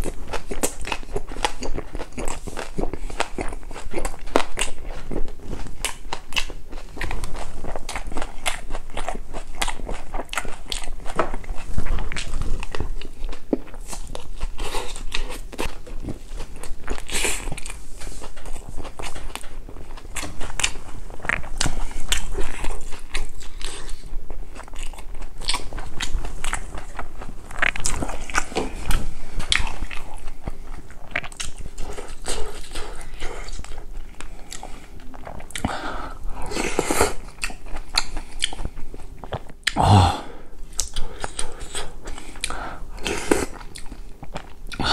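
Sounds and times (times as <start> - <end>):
person chewing food: 0.0 - 44.9.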